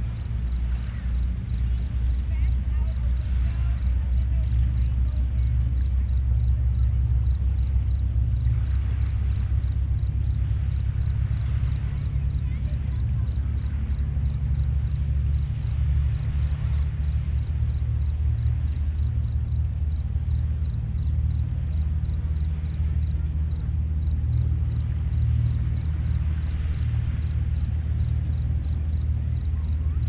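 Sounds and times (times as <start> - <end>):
cricket chirping: 0.0 - 30.0
surf washing gently: 0.0 - 30.0.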